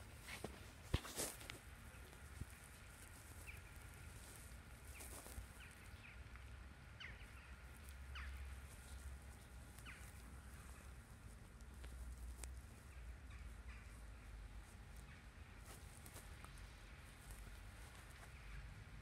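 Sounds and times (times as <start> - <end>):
small birds chirping: 1.2 - 19.0
steady low rumble: 1.5 - 19.0.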